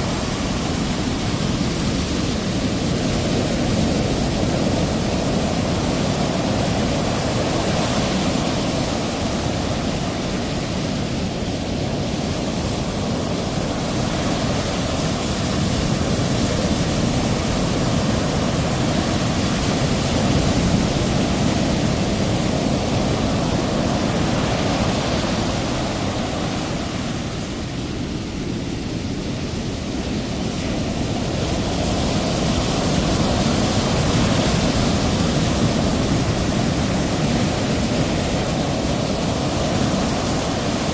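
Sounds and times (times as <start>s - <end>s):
ocean waves washing: 0.0s - 40.9s.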